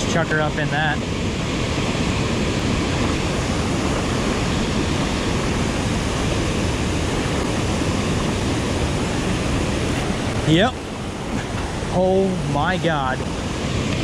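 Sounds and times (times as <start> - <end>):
rush of fast-moving water: 0.0 - 14.0.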